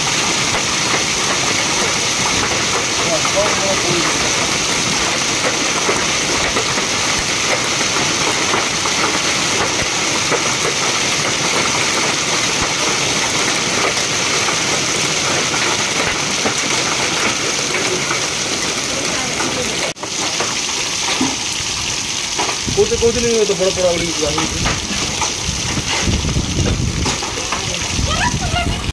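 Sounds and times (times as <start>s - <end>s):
hail and heavy rain pelting: 0.0s - 28.9s
hailstones ticking: 0.0s - 28.9s.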